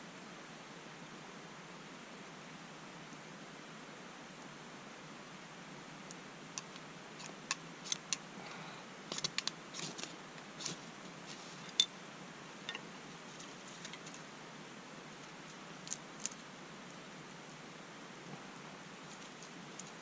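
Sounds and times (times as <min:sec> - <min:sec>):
steady soft hiss: 0:00.0 - 0:20.0.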